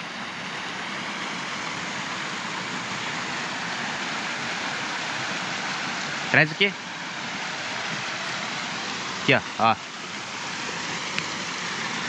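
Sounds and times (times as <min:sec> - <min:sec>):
creek water running over stones: 0:00.0 - 0:12.0.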